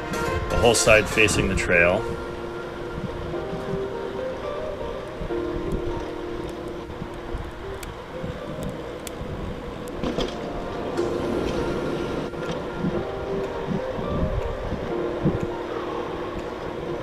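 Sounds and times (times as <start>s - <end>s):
steady hum: 0.0s - 17.0s
wind buffeting microphone: 0.0s - 17.0s
bicycle tyres rolling: 0.6s - 17.0s.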